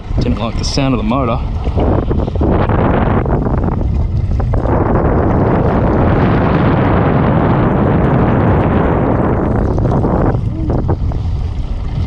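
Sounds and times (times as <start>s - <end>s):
boat motor running: 0.0s - 12.0s
wind buffeting microphone: 0.0s - 12.0s.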